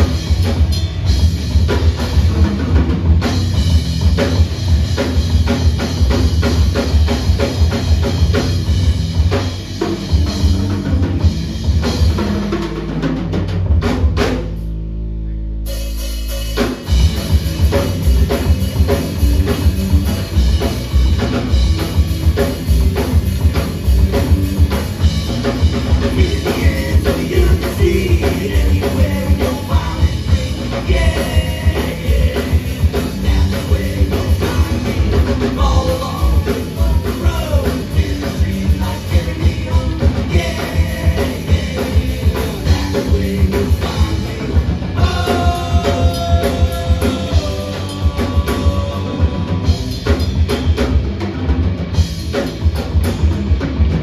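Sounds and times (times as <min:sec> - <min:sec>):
electric guitar: 0:00.0 - 0:14.4, 0:15.1 - 0:54.0
bass guitar: 0:00.0 - 0:54.0
drum kit: 0:00.0 - 0:54.0.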